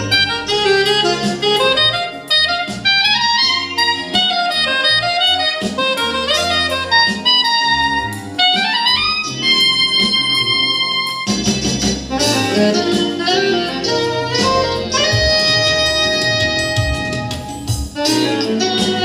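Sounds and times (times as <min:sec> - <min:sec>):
live jazz small group: 0:00.0 - 0:19.0
woodwind melody: 0:00.0 - 0:19.0.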